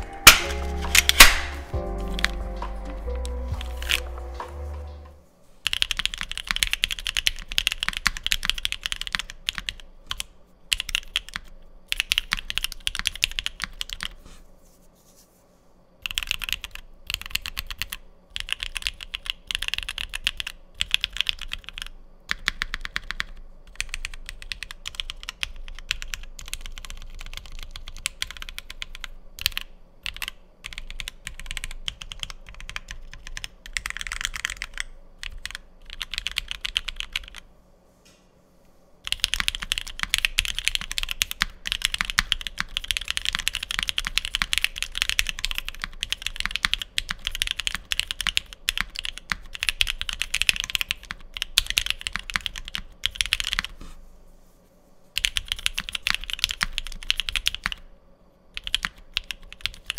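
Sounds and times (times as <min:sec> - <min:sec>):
mechanical keyboard typing: 0:05.6 - 0:14.2, 0:16.0 - 0:37.4, 0:39.0 - 0:53.8, 0:55.2 - 0:57.8, 0:58.6 - 0:59.9.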